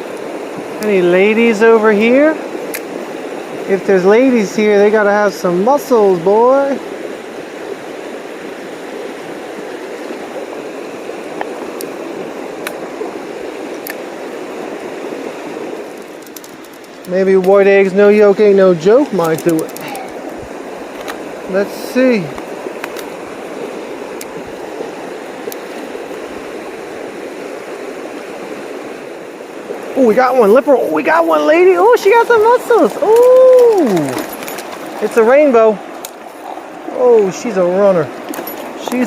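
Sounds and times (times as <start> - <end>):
creek water rushing over stones: 0.0 - 39.0.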